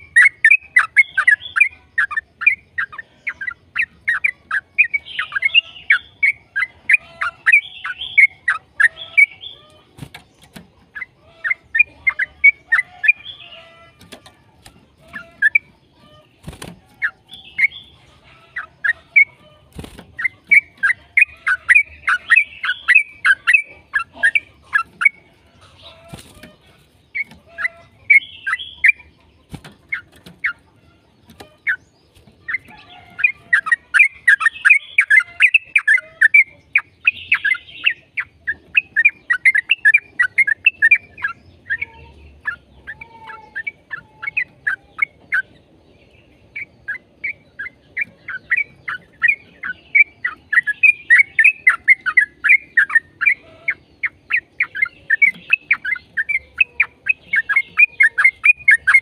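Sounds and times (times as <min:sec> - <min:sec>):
bird singing rolling chatter: 0:00.0 - 0:59.0.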